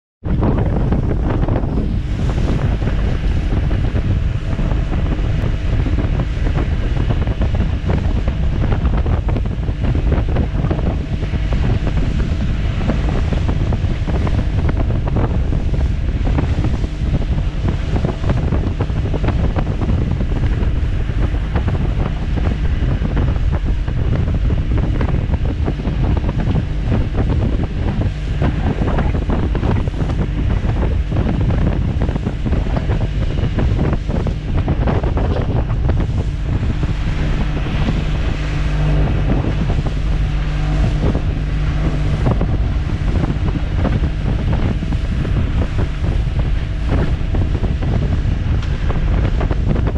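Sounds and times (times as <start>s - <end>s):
outboard motor droning: 0.2s - 49.9s
water rushing past hull: 0.2s - 49.9s
wind buffeting microphone: 0.2s - 49.9s.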